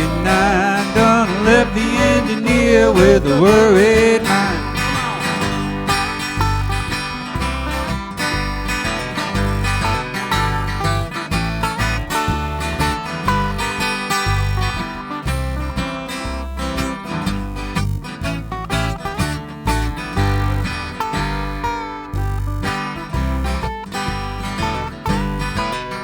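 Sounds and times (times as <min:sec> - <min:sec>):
plucked lead melody: 0:00.0 - 0:26.0
pulsing bass line: 0:00.0 - 0:26.0
strummed acoustic guitar: 0:00.0 - 0:26.0.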